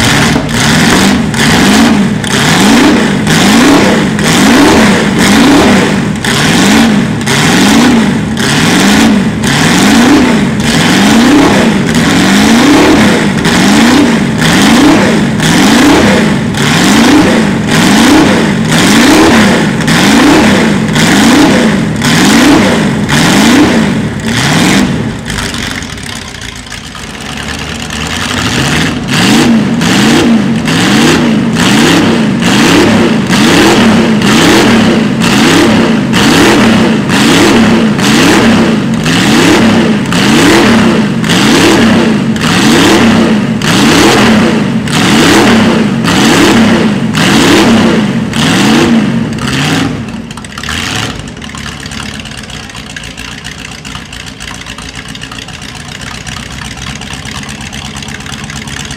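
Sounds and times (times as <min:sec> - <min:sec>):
engine idling: 0:00.0 - 0:58.9
engine throttle blips: 0:00.0 - 0:58.9.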